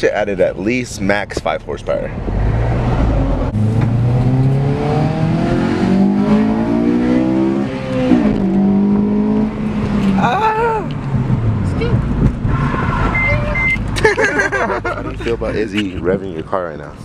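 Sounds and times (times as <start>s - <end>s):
car engine revving: 1.4s - 16.1s.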